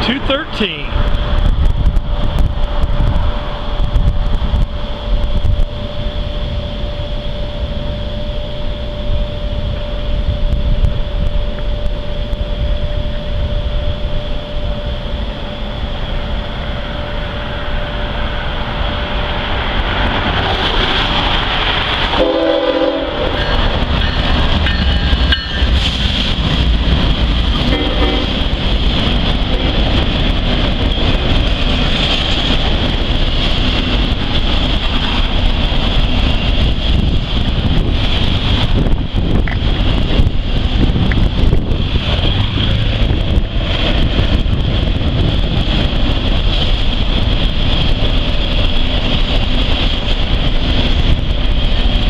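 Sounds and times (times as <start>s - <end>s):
diesel locomotive rumble: 0.0s - 52.0s
freight cars rolling on rails: 0.0s - 52.0s.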